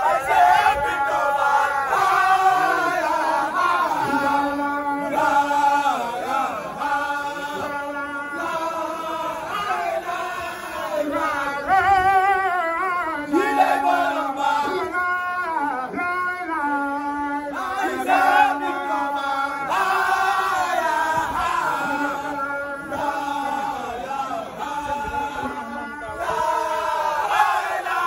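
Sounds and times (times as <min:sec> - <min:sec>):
man chanting into a microphone: 0:00.0 - 0:27.9.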